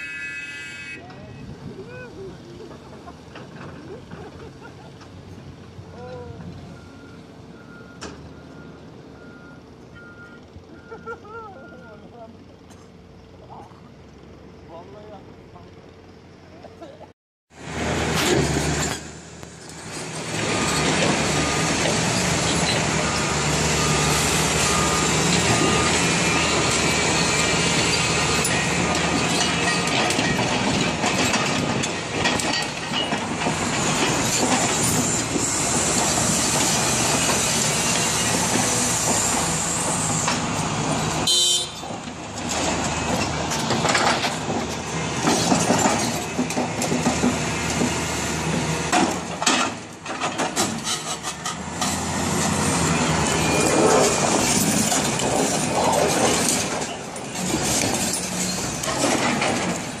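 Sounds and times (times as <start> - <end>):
diesel engine under load: 0.0 - 60.0.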